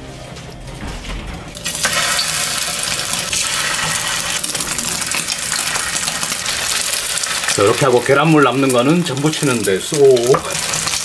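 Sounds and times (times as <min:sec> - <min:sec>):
tap water running into bowl: 0:01.6 - 0:11.0.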